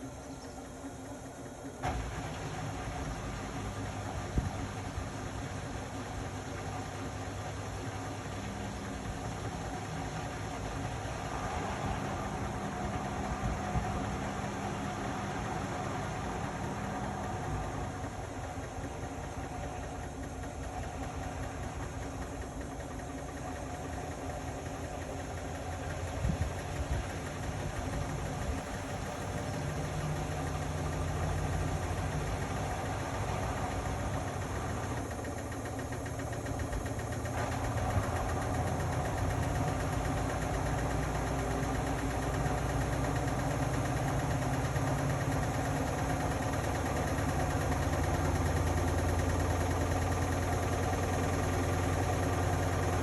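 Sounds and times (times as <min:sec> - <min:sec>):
washing machine motor and drum hum: 0:00.0 - 0:53.0.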